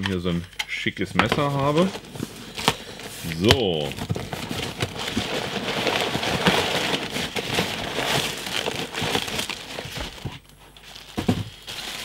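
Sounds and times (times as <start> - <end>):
packaging rustling and crinkling: 1.2 - 12.0.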